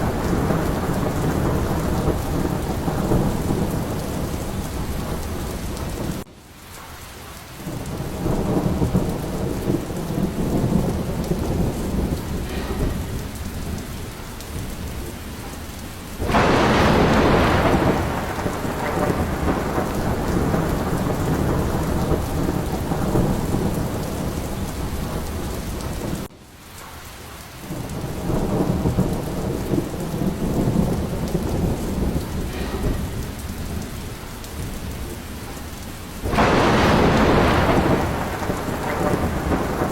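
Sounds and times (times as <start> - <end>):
loud thunderclap: 0.0 - 6.3, 7.6 - 26.3, 27.6 - 39.9
rolling thunder: 0.0 - 6.3, 7.6 - 27.0, 27.6 - 39.9
heavy rain: 0.0 - 39.9.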